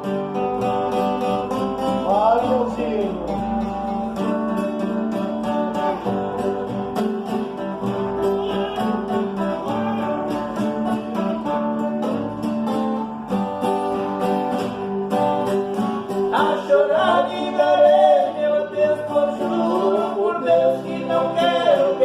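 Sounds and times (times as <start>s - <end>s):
plucked acoustic guitar melody: 0.0s - 22.0s
strummed guitar rhythm: 0.0s - 22.0s.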